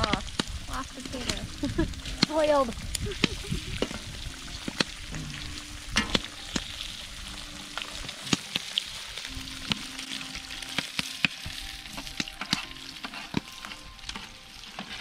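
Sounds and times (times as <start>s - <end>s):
sharp pops and crackles: 0.0s - 6.8s, 7.7s - 9.0s, 9.6s - 9.9s, 10.7s - 15.0s
bacon sizzling in a pan: 0.0s - 15.0s.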